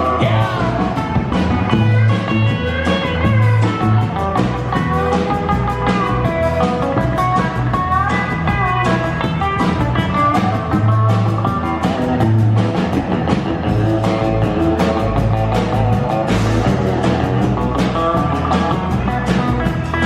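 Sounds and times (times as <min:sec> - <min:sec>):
bass notes: 0:00.0 - 0:20.0
lead guitar: 0:00.0 - 0:20.0
steady drum beat: 0:00.0 - 0:20.0.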